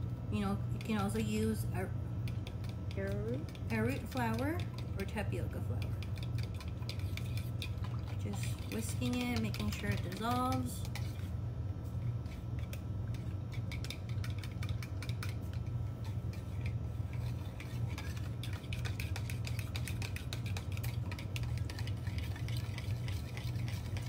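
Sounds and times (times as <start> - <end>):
steady low hum: 0.0 - 24.0
whisk clicking in plastic cup: 2.2 - 11.1, 12.6 - 15.7, 16.3 - 24.0.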